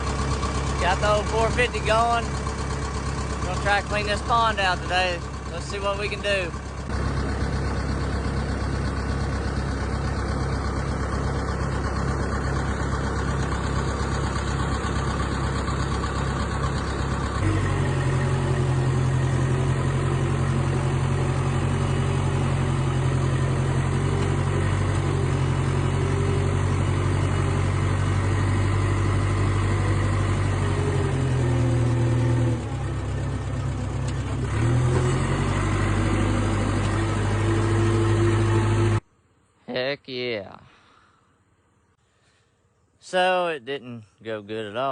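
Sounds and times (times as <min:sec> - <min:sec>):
bulldozer engine running: 0:00.0 - 0:39.1.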